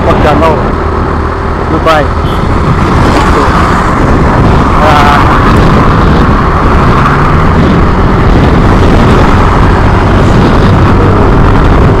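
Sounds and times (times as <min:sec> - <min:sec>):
motorcycle engine: 0:00.0 - 0:12.0
road noise: 0:00.0 - 0:12.0
wind rumble on microphone: 0:00.0 - 0:12.0.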